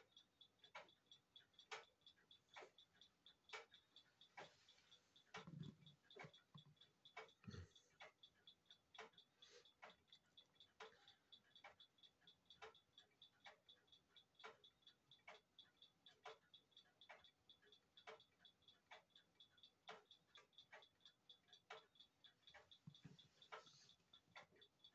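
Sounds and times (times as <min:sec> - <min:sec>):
desk clock ticking: 0:00.0 - 0:24.9.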